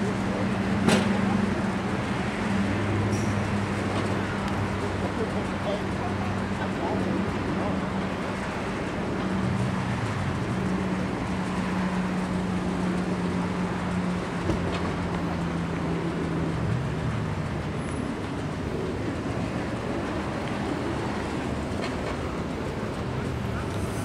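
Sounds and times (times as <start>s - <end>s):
low mechanical hum: 0.0s - 24.0s
rumbling wash of noise: 0.0s - 24.0s.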